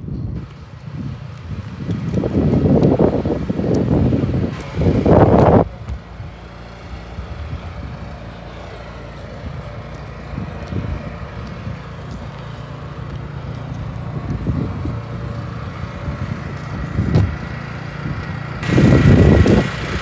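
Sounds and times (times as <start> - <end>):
engine humming: 0.0 - 20.0
wind buffeting microphone: 0.0 - 20.0.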